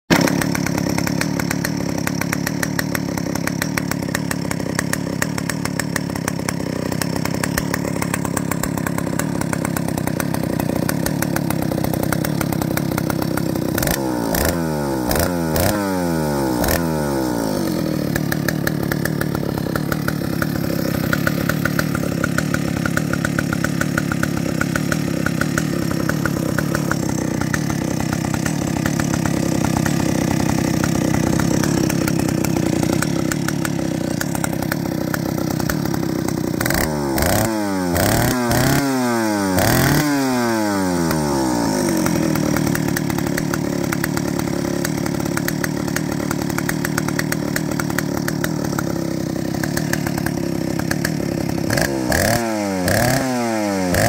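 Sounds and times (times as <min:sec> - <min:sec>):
chainsaw idling and revving: 0:00.1 - 0:54.0.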